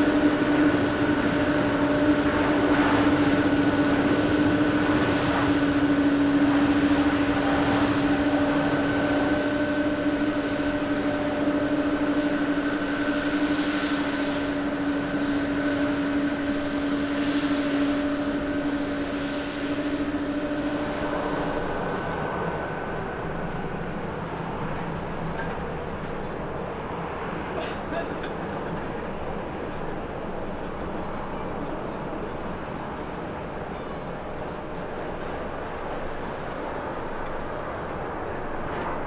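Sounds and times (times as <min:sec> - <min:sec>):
jet engines at takeoff: 0:00.0 - 0:39.0.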